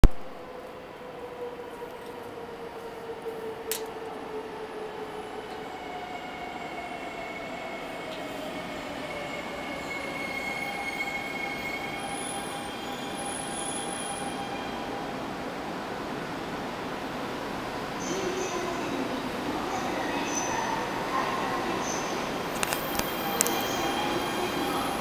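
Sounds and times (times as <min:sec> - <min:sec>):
train pulling in: 0:00.3 - 0:25.0.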